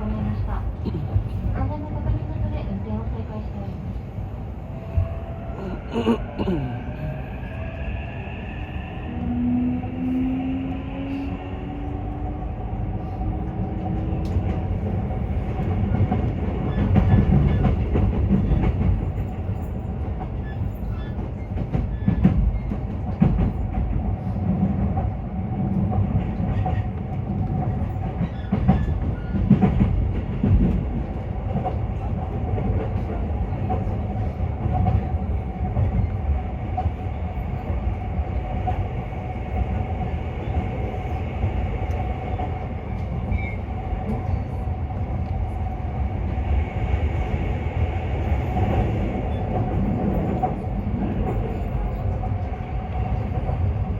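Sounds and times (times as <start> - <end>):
train running rumble: 0.0 - 53.9.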